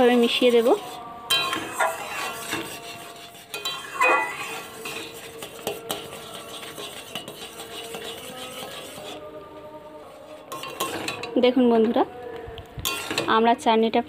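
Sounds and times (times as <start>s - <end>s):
metal spoon scraping a pan: 0.0s - 9.3s, 10.0s - 12.0s, 12.8s - 13.7s.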